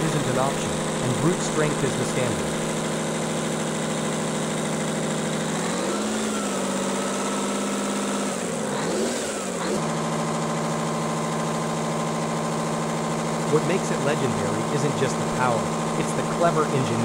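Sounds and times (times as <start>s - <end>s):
diesel engine idling and revving: 0.0s - 17.0s.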